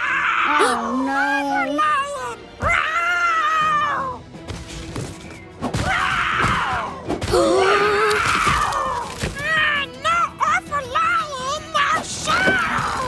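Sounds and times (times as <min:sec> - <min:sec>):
character cries and groans: 0:00.0 - 0:04.2, 0:06.1 - 0:13.0
cartoon background music: 0:00.0 - 0:13.0.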